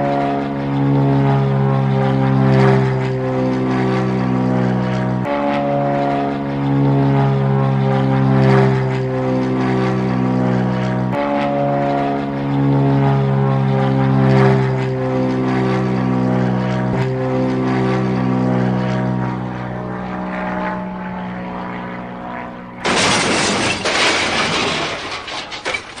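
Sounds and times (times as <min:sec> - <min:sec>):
vehicle engine drone: 0:00.0 - 0:25.7.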